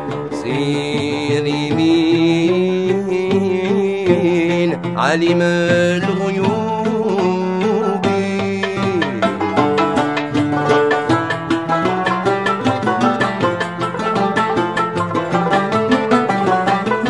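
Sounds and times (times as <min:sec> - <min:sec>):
hand drum strokes: 0:00.0 - 0:17.0
plucked strings melody: 0:00.0 - 0:17.0.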